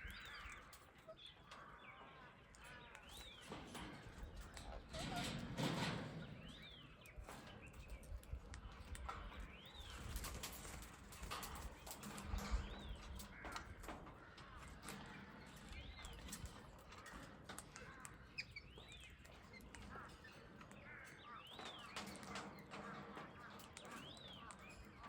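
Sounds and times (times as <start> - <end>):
small bird chirping: 0.0 - 13.8, 15.1 - 25.0.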